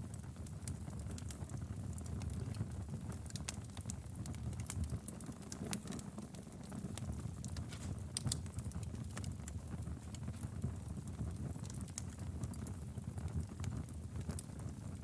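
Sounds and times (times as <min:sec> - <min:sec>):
fire low rumble: 0:00.0 - 0:15.0
logs crackling and popping: 0:00.2 - 0:15.0.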